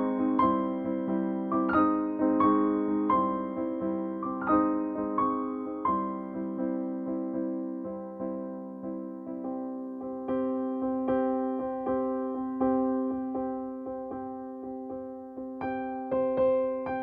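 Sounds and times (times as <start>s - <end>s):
electric piano music: 0.0s - 17.0s.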